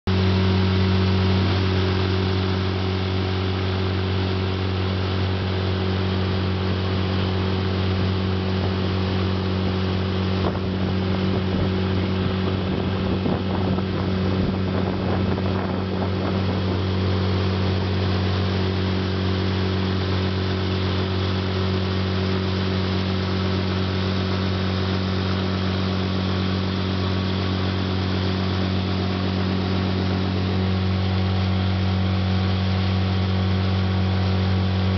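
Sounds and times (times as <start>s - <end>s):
outboard motor running: 0.1s - 34.9s
rush of boat wake: 0.1s - 34.9s.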